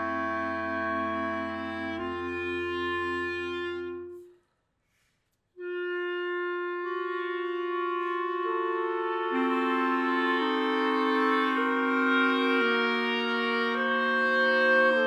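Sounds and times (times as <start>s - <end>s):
clarinet quartet playing chords: 0.0s - 4.2s, 5.6s - 15.0s.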